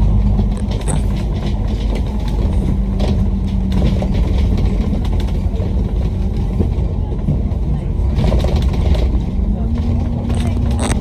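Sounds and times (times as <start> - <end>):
bus body rattles: 0.0 - 11.0
bus engine and road rumble: 0.0 - 11.0.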